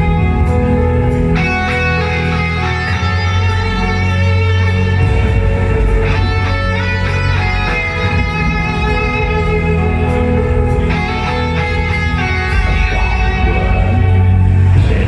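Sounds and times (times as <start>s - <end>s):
bass line: 0.0s - 15.0s
guitar: 0.0s - 15.0s
live band playing: 0.0s - 15.0s.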